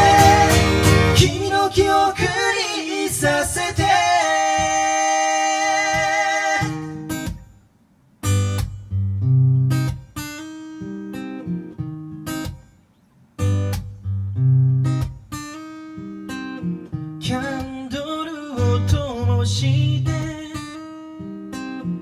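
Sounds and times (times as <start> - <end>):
acoustic guitar strumming: 0.0 - 7.6, 8.2 - 22.0.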